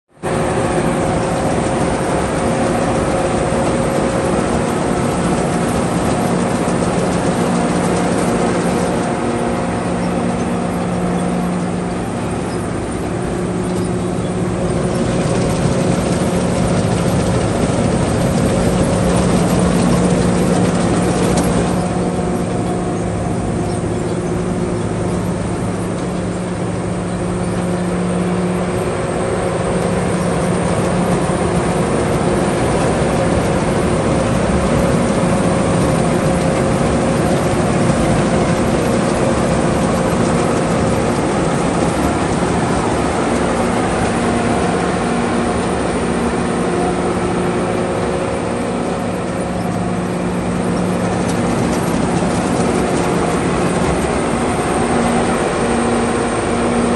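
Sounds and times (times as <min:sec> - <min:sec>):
combine harvester engine drone: 0:00.1 - 0:56.9
threshing machinery noise: 0:00.1 - 0:56.9.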